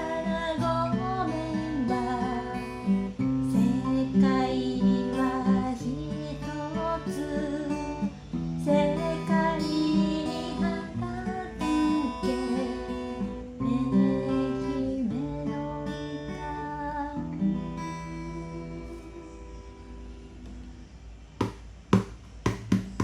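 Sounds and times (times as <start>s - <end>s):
person singing softly: 0.0s - 20.4s
acoustic guitar strumming: 0.0s - 20.7s, 21.3s - 23.0s.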